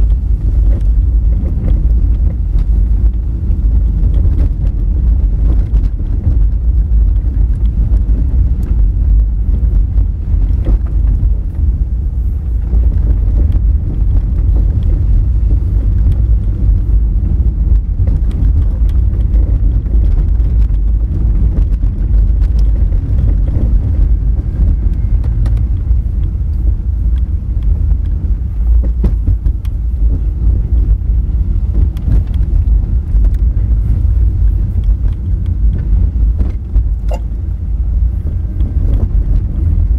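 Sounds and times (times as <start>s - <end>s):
tyres rumbling on gravel: 0.0s - 39.9s.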